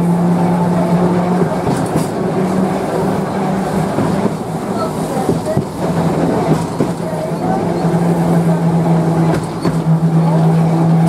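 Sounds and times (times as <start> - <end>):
tram motor hum: 0.0 - 11.0
wheels clicking on rails: 0.0 - 11.0.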